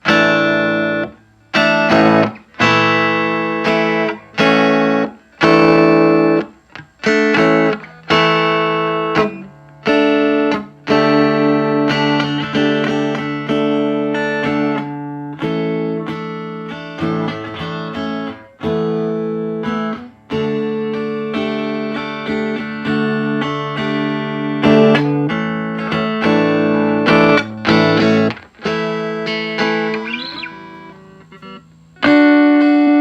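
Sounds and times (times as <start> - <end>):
electric guitar chords ringing: 0.0 - 33.0.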